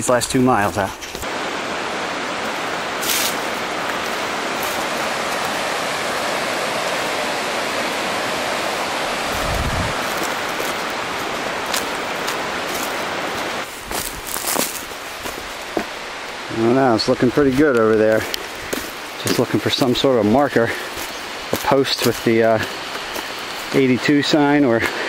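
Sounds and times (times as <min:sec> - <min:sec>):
creek water flowing: 0:00.1 - 0:25.0.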